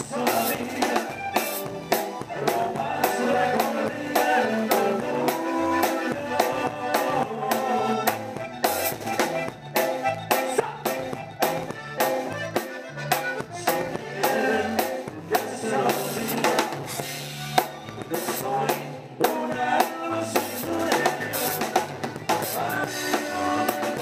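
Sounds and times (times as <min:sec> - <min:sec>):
bass line: 0:00.0 - 0:24.0
live band playing: 0:00.0 - 0:24.0.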